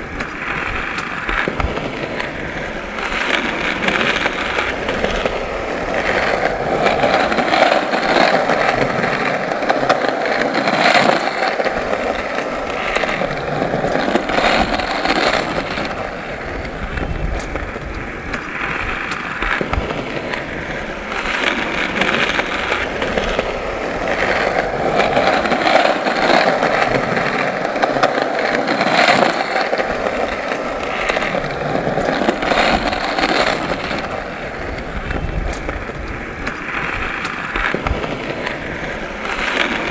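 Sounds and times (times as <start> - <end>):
short clacks: 0.0 - 39.9
skateboard wheels rolling: 0.0 - 39.9.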